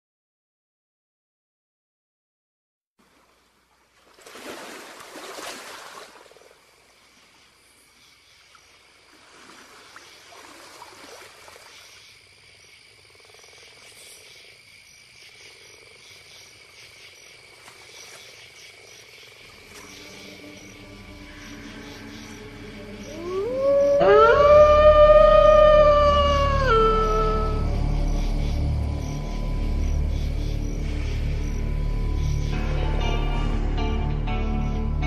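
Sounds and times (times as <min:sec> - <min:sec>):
frogs: 0:03.2 - 0:33.9
crickets trilling: 0:04.2 - 0:35.0.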